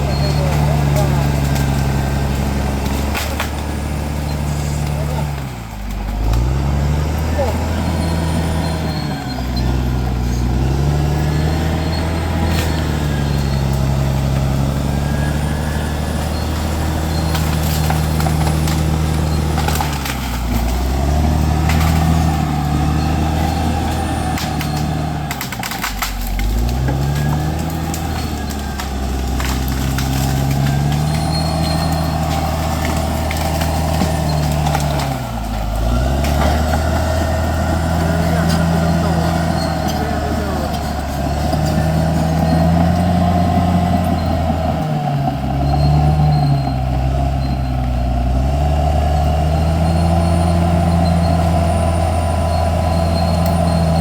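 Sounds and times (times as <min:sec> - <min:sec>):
bulldozer diesel engine lugging: 0:00.0 - 0:54.0.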